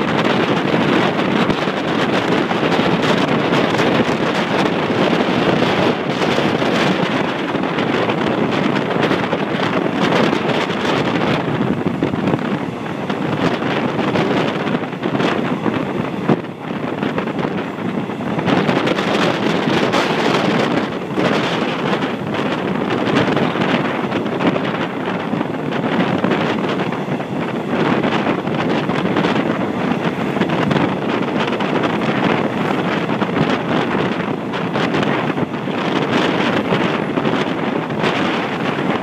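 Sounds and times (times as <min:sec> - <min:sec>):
train running noise: 0:00.0 - 0:39.0
wind rushing over microphone: 0:00.0 - 0:39.0.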